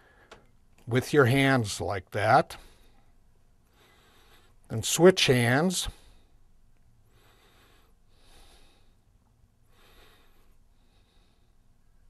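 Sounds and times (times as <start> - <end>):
soft breaths: 0.0 - 0.6, 2.5 - 12.0.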